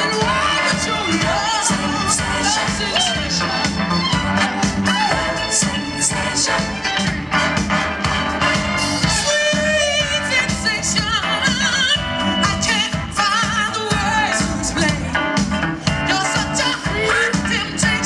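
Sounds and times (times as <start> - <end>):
dance music bass beat: 0.0 - 18.0.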